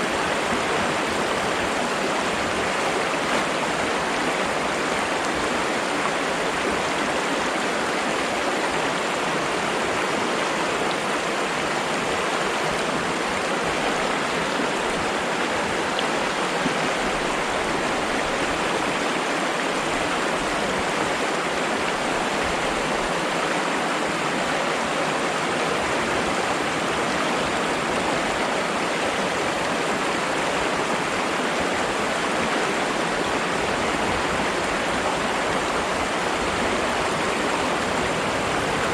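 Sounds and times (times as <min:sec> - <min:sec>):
stream rushing and splashing: 0:00.0 - 0:38.9.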